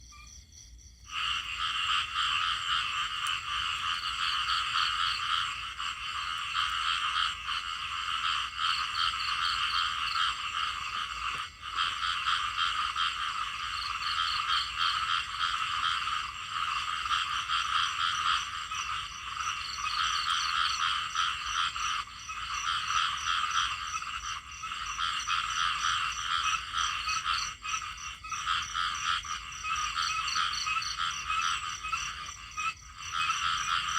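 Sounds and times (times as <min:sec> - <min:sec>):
chorus of frogs croaking: 0:00.0 - 0:33.9.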